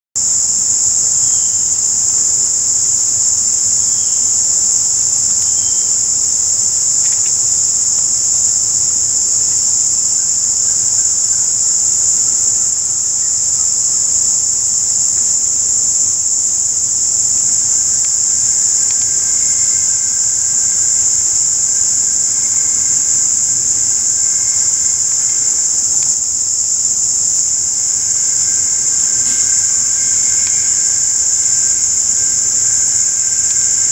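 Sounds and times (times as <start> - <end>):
insect chorus: 0.2 - 33.9.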